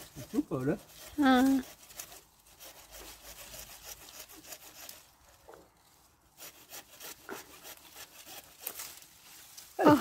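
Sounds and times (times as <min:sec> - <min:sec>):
hand saw cutting branch: 0:00.0 - 0:09.7.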